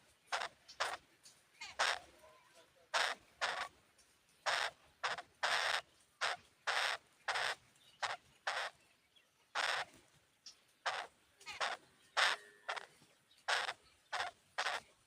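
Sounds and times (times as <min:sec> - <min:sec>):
birds harsh rasping calls: 0:00.0 - 0:15.0.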